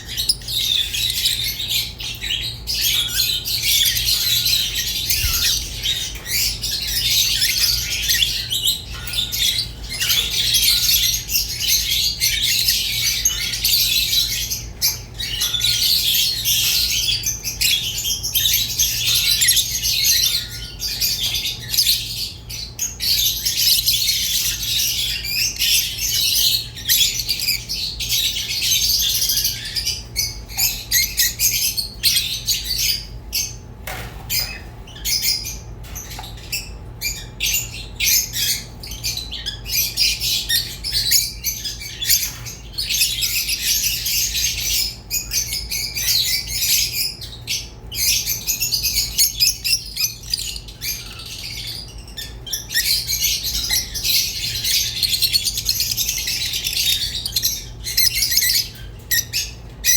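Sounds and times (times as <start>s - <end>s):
lovebirds chattering and chirping: 0.0s - 59.9s.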